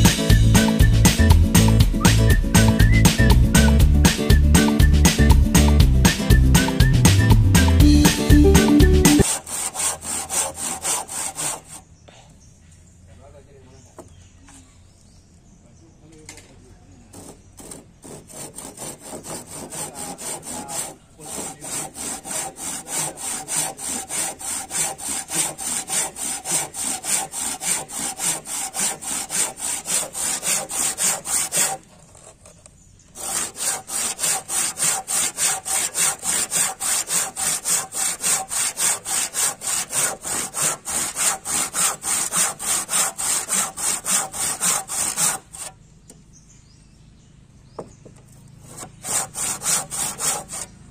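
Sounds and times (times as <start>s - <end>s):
handsaw cutting wood: 0.0s - 11.9s, 17.0s - 45.8s, 48.2s - 50.8s.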